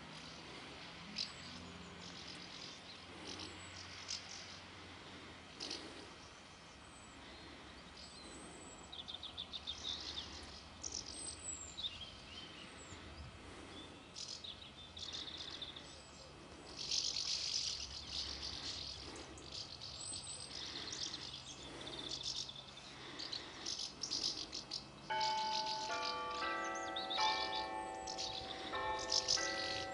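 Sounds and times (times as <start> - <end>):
birds twittering in flight: 0.0 - 29.9.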